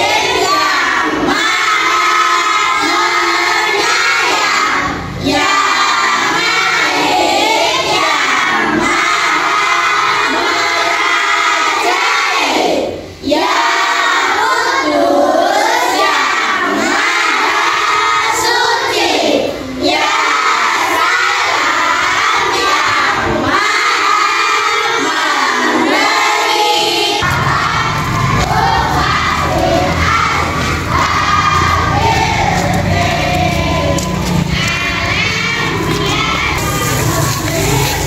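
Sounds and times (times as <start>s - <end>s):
children chanting in unison: 0.0s - 38.0s.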